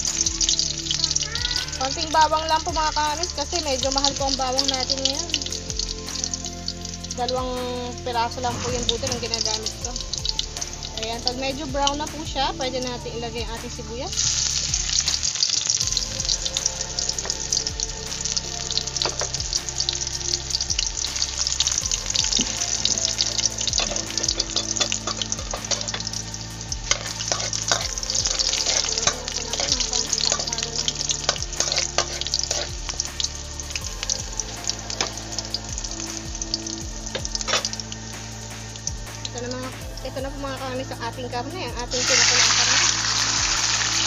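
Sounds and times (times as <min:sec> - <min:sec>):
garlic and onion sizzling in oil: 0:00.0 - 0:44.0.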